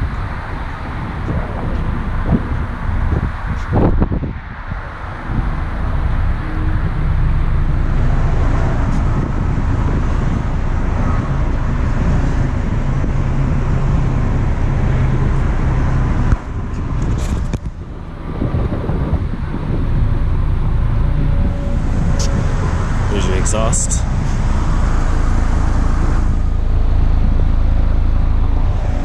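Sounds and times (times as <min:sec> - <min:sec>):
road traffic rumble: 0:00.0 - 0:29.0
vehicle engine running: 0:00.0 - 0:29.0.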